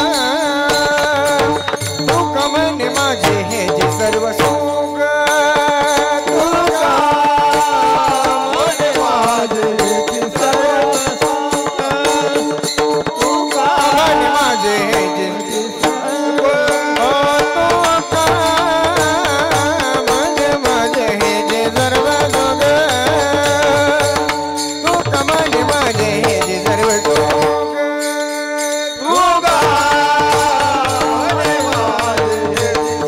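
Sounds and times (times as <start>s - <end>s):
percussion strokes: 0.0s - 33.0s.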